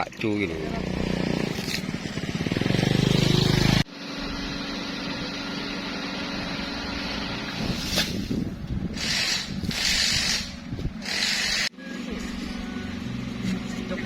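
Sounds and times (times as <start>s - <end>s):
vehicle engine running: 0.3s - 14.0s.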